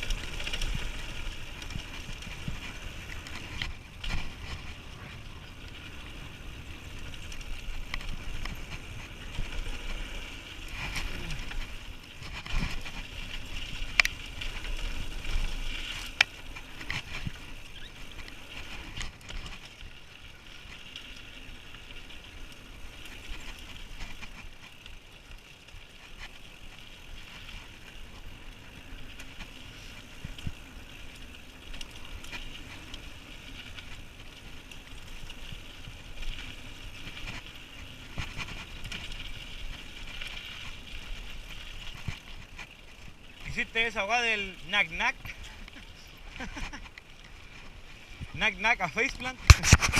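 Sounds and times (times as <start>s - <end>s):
bike rattling: 0.0s - 49.9s
bike tyre rumble: 0.0s - 49.9s.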